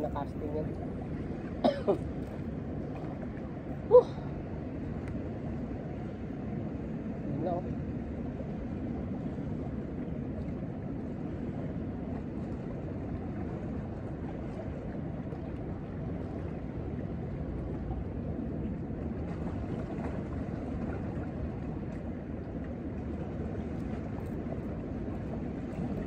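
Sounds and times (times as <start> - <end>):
faint water wash: 0.0 - 26.0
wind buffeting microphone: 0.0 - 26.0.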